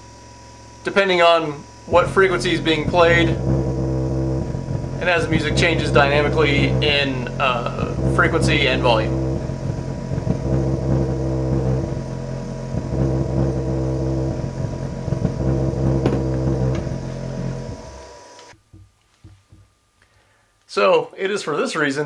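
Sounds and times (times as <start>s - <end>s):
bass-heavy music through a subwoofer: 0.0s - 18.3s.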